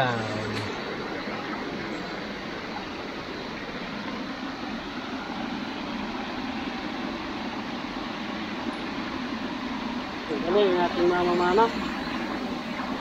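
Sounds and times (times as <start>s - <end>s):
water rushing in channel: 0.0s - 13.0s.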